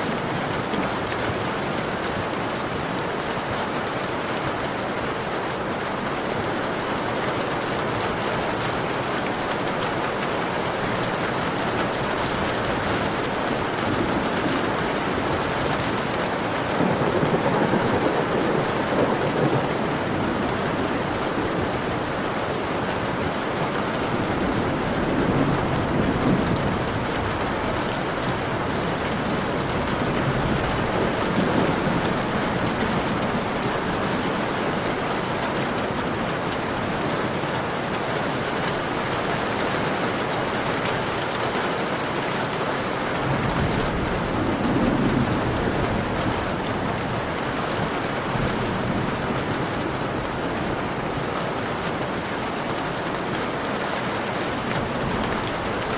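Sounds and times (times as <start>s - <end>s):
heavy rain pattering on a window: 0.0s - 55.9s
thunder rumbles: 4.9s - 41.2s, 43.1s - 51.8s.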